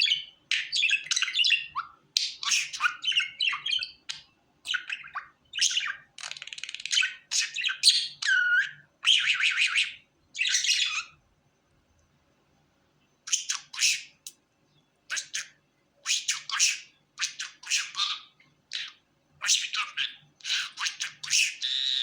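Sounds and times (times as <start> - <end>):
budgerigar chirping: 0.0 - 11.2, 13.3 - 14.2, 15.1 - 22.0.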